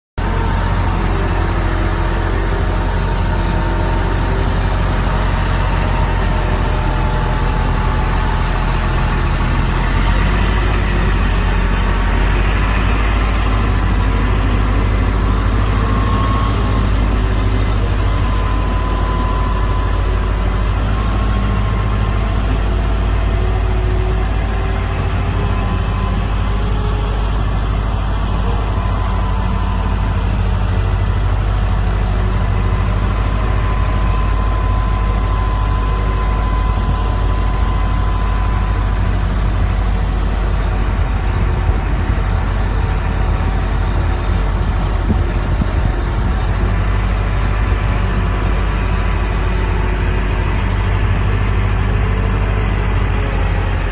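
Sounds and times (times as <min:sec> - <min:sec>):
diesel engine running: 0:00.2 - 0:53.9
thin whine: 0:00.2 - 0:53.9.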